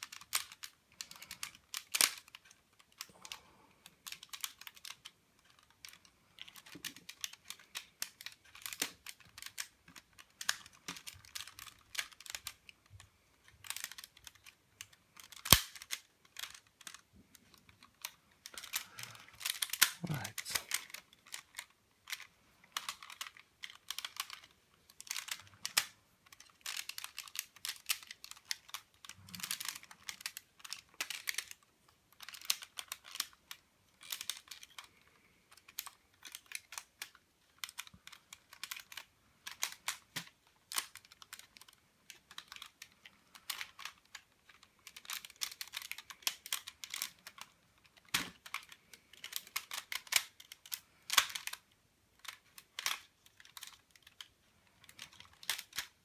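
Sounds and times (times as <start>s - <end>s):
plastic toy parts clicking: 0.0s - 56.0s.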